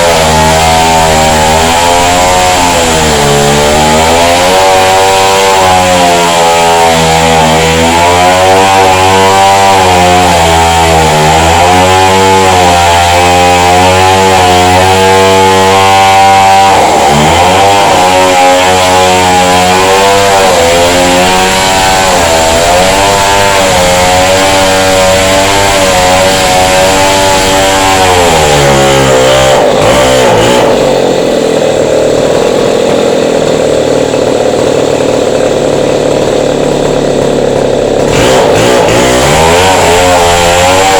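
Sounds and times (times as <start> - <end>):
chainsaw cutting masonry: 0.0 - 40.9.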